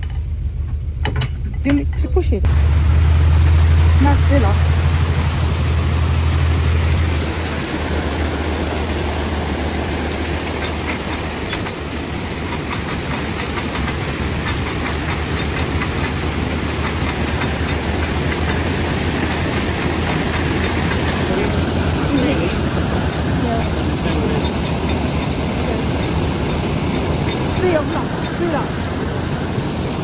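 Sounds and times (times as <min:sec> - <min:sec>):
boat engine idling: 0:00.0 - 0:30.0
water rushing through lock gate: 0:02.4 - 0:30.0.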